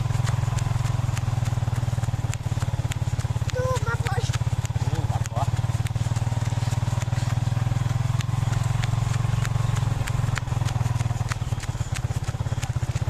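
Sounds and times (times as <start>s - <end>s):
footsteps on gravel: 0.0s - 13.0s
small motorcycle engine putter: 0.0s - 13.0s.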